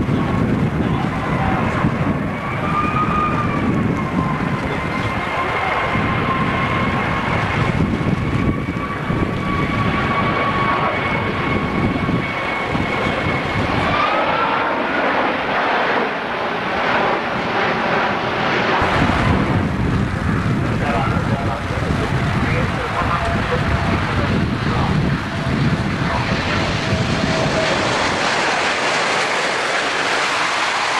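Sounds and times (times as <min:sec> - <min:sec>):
jet airliner flying past: 0:00.0 - 0:30.9.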